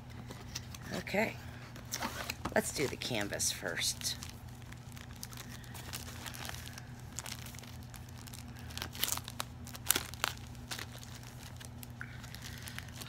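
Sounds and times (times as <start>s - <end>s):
steady low hum: 0.0s - 13.0s
plastic bag crinkling: 1.9s - 13.0s.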